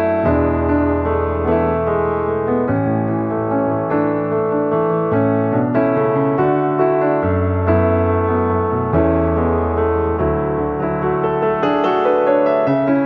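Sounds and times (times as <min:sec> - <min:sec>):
piano chords and melody: 0:00.0 - 0:13.0.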